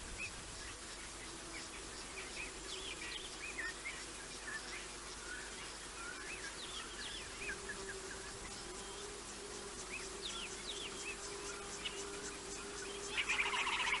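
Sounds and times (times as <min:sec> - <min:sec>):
low insect drone: 0:00.0 - 0:14.0.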